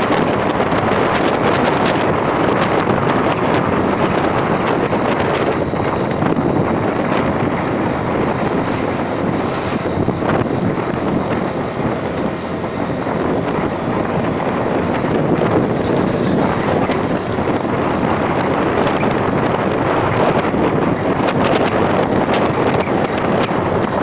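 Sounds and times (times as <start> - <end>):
vehicle rumbling uphill: 0.0 - 24.0
wind buffeting microphone: 0.0 - 24.0.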